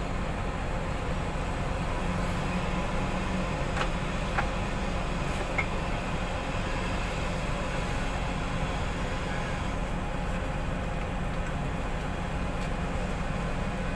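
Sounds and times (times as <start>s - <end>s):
diesel engine running: 0.0s - 13.9s.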